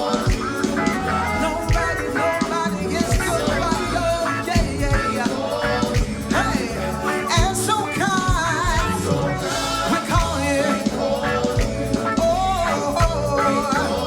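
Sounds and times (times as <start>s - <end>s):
gospel band playing: 0.0s - 14.0s
voices singing: 0.0s - 14.0s.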